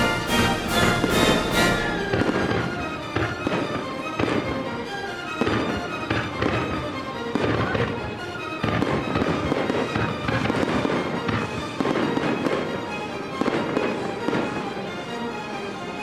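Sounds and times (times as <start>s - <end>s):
fireworks bangs and crackles: 0.0s - 15.4s
background music: 0.0s - 16.0s.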